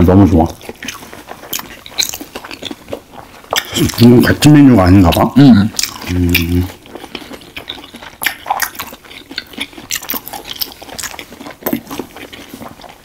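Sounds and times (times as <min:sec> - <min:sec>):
people chewing food: 0:00.0 - 0:13.0
mouth clicks and smacks: 0:00.4 - 0:04.2, 0:05.0 - 0:12.9.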